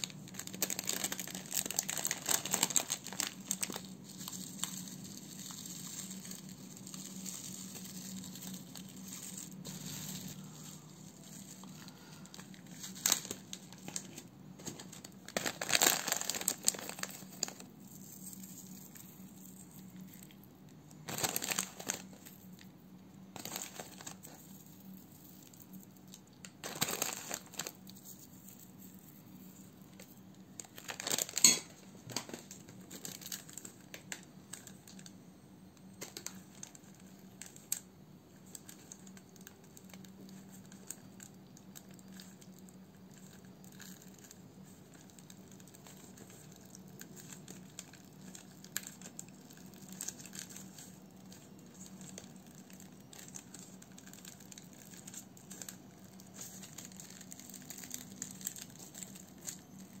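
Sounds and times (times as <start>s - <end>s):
wax sheet rustles and ticks: 0.0s - 22.7s, 23.3s - 31.4s, 32.0s - 35.2s, 35.8s - 60.0s
dried herbs rustling and pattering: 0.0s - 35.1s, 36.0s - 60.0s
paper crinkle: 0.0s - 35.2s, 35.8s - 60.0s.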